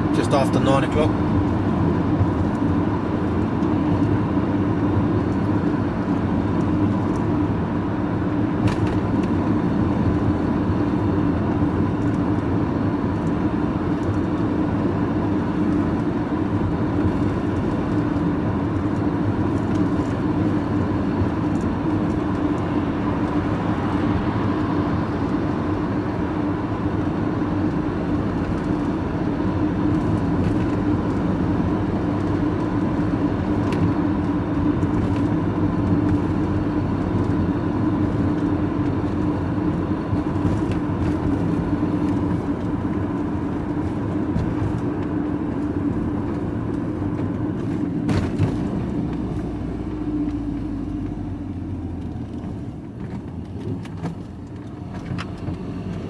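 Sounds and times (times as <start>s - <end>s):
road noise: 0.0s - 56.0s
vehicle engine drone: 0.0s - 56.0s.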